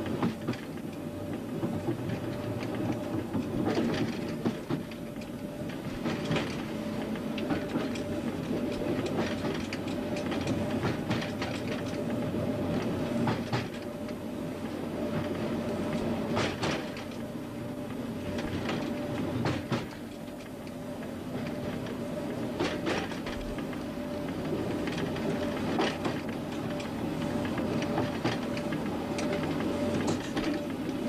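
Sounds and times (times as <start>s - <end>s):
train running drone: 0.0s - 31.0s
train wheels clicking over rail joints: 0.1s - 12.2s, 13.2s - 14.2s, 15.1s - 17.2s, 18.4s - 20.6s, 22.6s - 23.8s, 24.4s - 31.0s.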